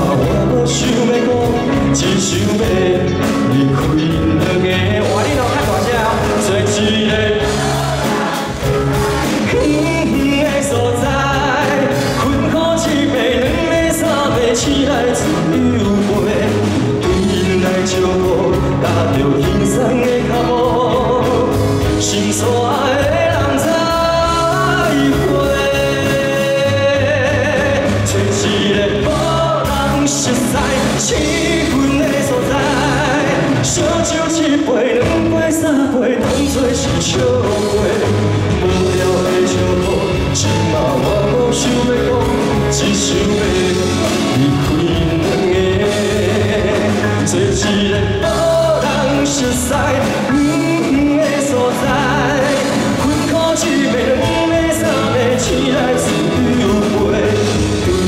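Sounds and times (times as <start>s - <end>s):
instrumental backing: 0.0s - 58.0s
man singing pop song: 0.0s - 58.0s.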